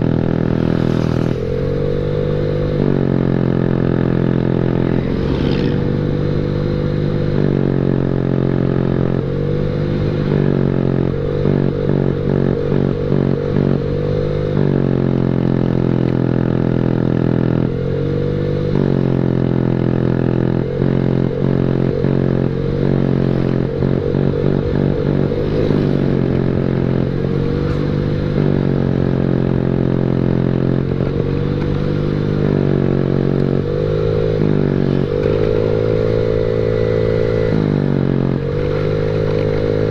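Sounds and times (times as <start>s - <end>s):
scooter engine with loud exhaust: 0.0s - 39.9s.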